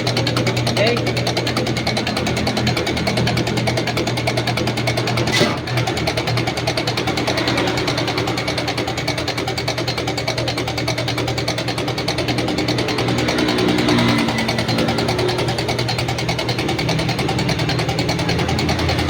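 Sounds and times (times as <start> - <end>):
machinery clattering: 0.0 - 19.0.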